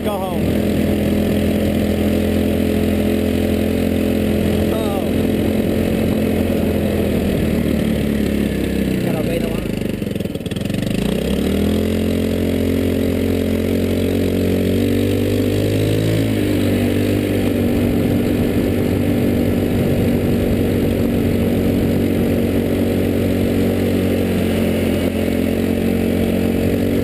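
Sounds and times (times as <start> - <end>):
go-kart engine running hard: 0.0 - 27.0.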